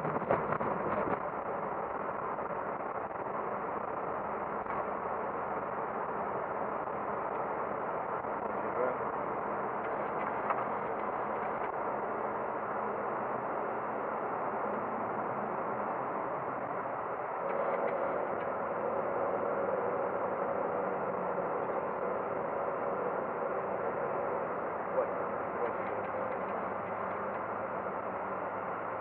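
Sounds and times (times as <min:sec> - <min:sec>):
engine and airflow rush: 0:00.0 - 0:29.0
steady hum: 0:00.0 - 0:29.0.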